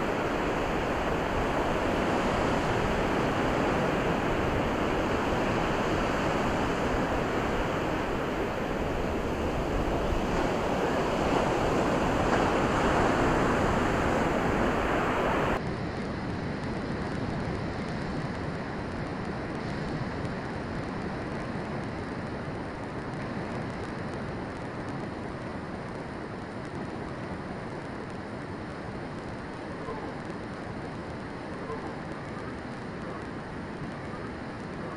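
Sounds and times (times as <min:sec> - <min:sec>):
waves washing on beach: 0:00.0 - 0:34.9.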